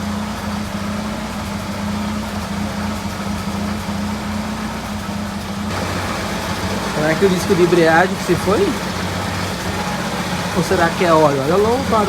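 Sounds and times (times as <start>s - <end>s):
car engine idling: 0.0s - 12.0s
clutch and gearbox noise: 0.0s - 12.0s.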